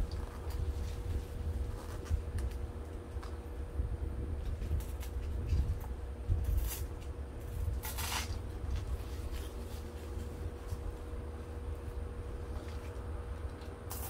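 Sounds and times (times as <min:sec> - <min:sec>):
artificial vine rustling: 0:00.0 - 0:03.4, 0:04.4 - 0:14.0
faint steady hum: 0:00.0 - 0:14.0.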